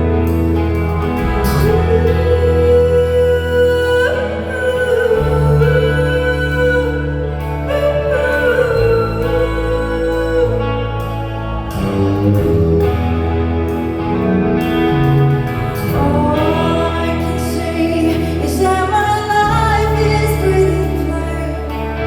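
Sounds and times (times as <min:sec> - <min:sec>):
live band song: 0:00.0 - 0:22.0
person singing: 0:00.0 - 0:22.0.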